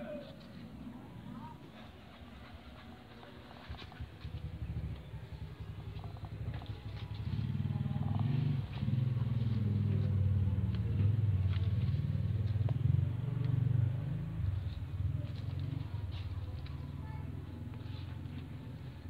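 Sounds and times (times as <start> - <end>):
low uneven rumble: 0.0 - 19.0.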